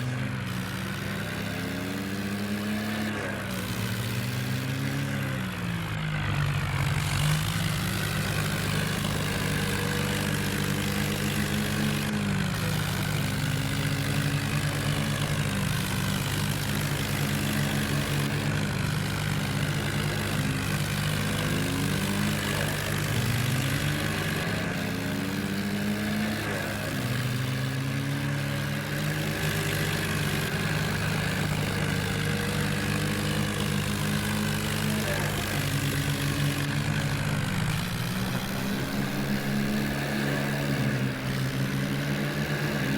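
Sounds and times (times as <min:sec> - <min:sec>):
tractor engines labouring: 0:00.0 - 0:42.9.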